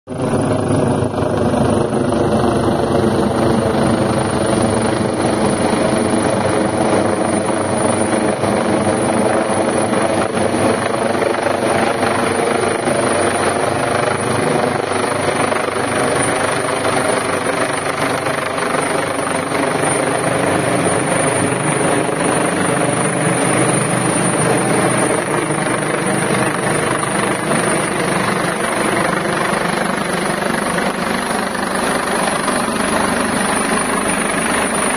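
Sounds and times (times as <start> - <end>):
helicopter rotor and engine: 0.1 - 34.9.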